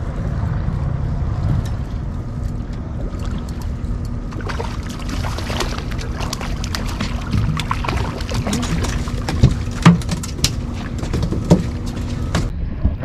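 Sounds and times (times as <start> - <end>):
boat engine rumble: 0.0 - 13.0
faint steady hum: 0.0 - 13.0.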